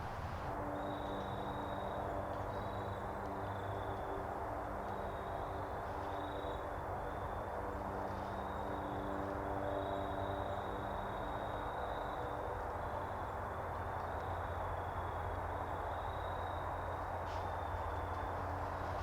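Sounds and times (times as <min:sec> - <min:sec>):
even outdoor hiss: 0:00.0 - 0:19.0.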